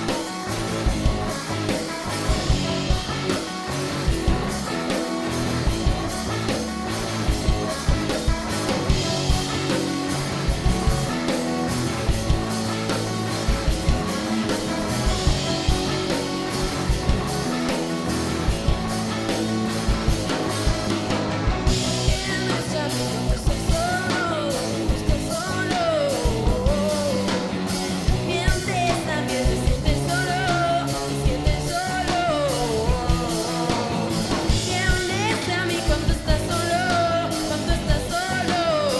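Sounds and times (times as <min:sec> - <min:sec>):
drum kit beat: 0:00.0 - 0:38.9
rock guitars: 0:00.0 - 0:38.9
sliding lead guitar melody: 0:00.0 - 0:38.9.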